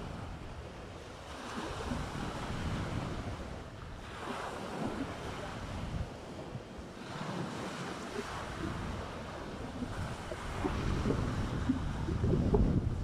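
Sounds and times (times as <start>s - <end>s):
waves washing onto beach: 0.0s - 13.0s
wind rumbling on microphone: 0.0s - 13.0s.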